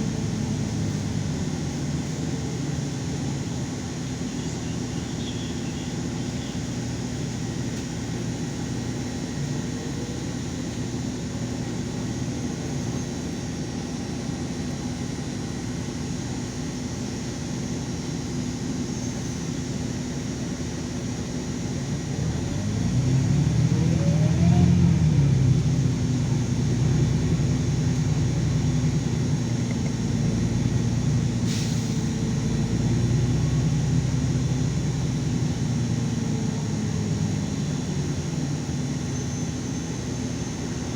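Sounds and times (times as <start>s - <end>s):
bus engine humming: 0.0s - 40.9s
rising engine whine: 0.0s - 40.9s.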